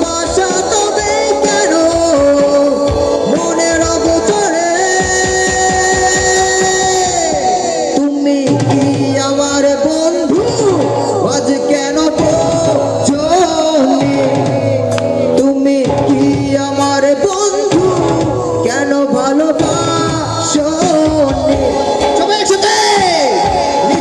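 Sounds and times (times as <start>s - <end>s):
instrumental accompaniment: 0.0s - 24.0s
person singing: 0.0s - 24.0s
steady percussion beat: 0.0s - 24.0s.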